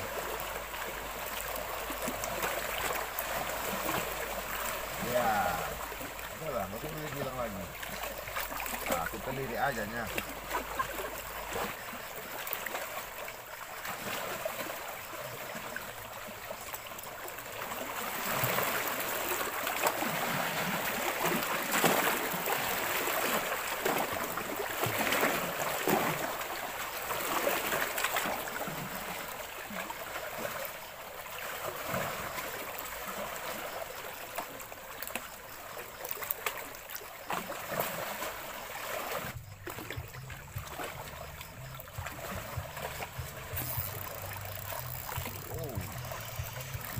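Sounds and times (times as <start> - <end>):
waves lapping against rocks: 0.0 - 46.9.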